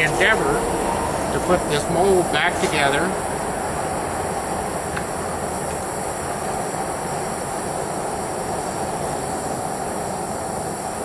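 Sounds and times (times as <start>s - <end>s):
propane burner roaring: 0.0s - 11.0s.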